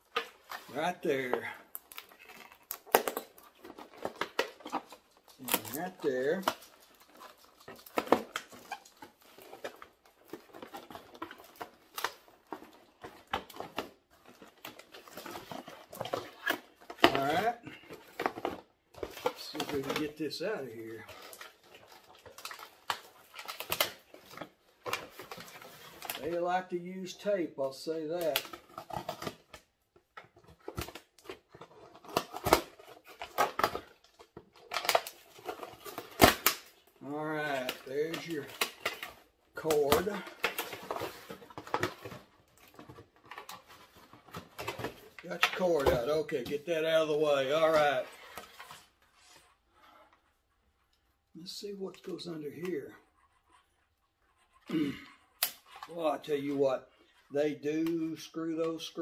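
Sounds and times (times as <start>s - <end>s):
cardboard rustling and crackling: 0.0s - 26.7s, 28.0s - 50.4s.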